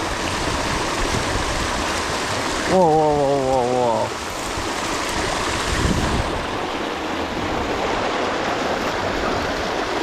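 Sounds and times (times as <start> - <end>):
water rushing over rocks: 0.0 - 10.0.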